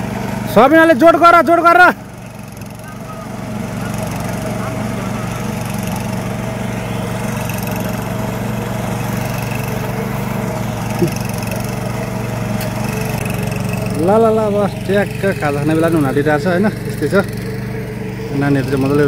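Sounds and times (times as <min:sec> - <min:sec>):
small tiller engine running: 0:00.0 - 0:19.0.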